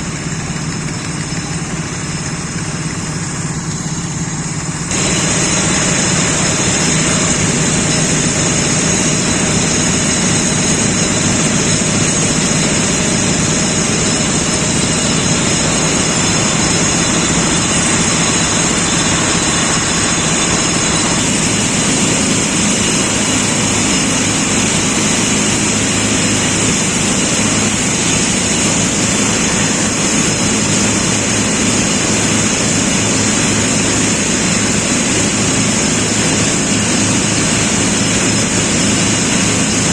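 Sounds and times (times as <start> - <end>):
diesel engine running: 0.0 - 39.9
loud high hiss: 1.9 - 39.9.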